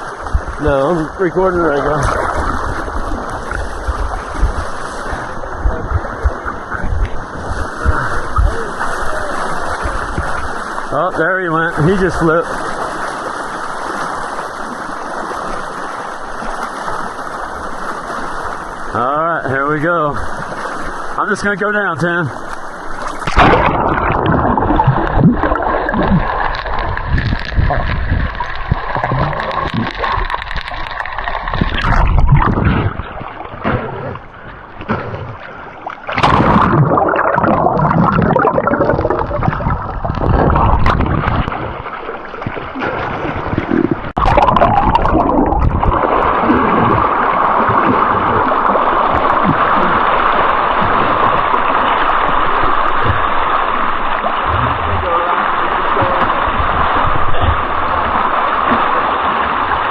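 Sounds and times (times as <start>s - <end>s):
river water rushing and gurgling: 0.0s - 59.9s
water splashing: 0.0s - 59.9s.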